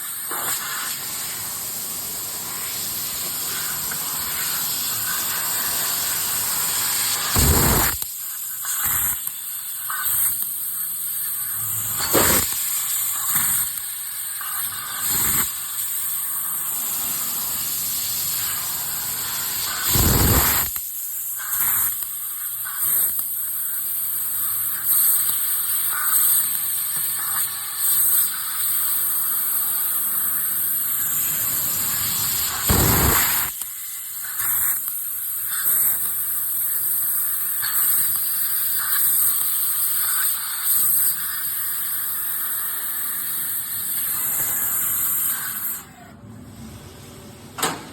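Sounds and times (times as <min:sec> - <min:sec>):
air jet hissing from laser cutter: 0:00.0 - 0:47.9.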